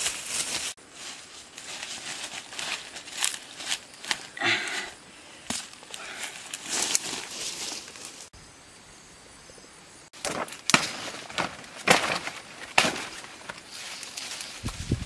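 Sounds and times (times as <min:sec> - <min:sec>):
leaves and weeds rustling: 0:00.0 - 0:08.4, 0:10.1 - 0:15.0.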